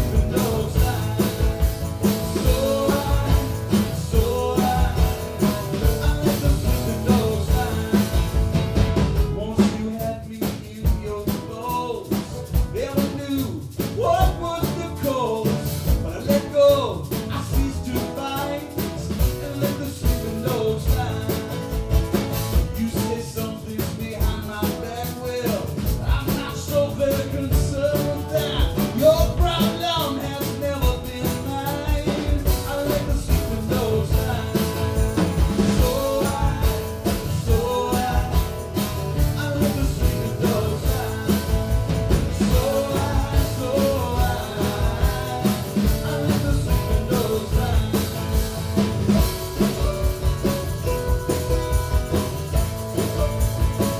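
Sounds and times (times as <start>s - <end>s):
acoustic guitars strumming: 0.0s - 53.9s
drum kit beat: 0.0s - 53.9s
man singing: 0.0s - 53.9s.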